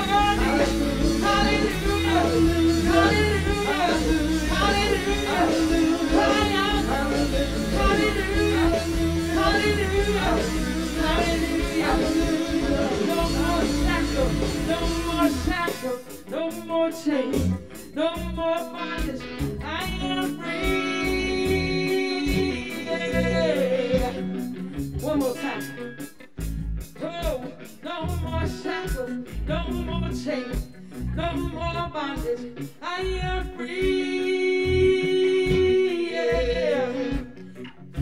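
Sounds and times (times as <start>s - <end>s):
person singing: 0.0s - 24.4s, 27.1s - 37.4s
bass guitar: 0.0s - 38.0s
drums: 0.0s - 38.0s
guitar: 0.0s - 38.0s.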